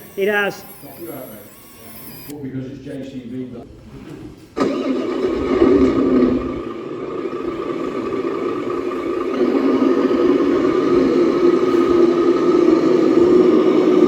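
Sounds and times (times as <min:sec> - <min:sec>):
model vehicle mechanical whir: 0:00.0 - 0:02.4, 0:04.6 - 0:14.0.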